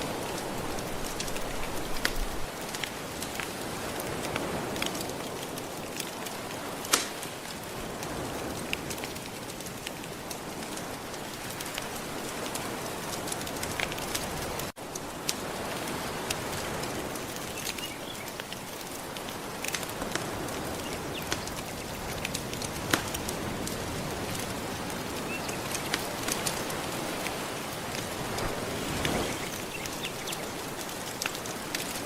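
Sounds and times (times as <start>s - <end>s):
soft ocean waves: 0.0s - 32.0s
wood fire crackling and popping: 0.0s - 32.0s.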